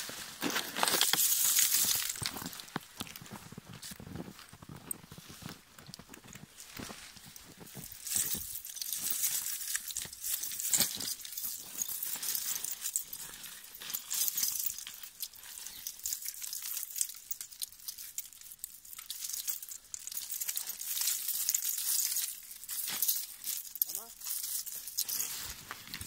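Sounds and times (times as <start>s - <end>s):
snow chains clinking: 0.0s - 26.0s.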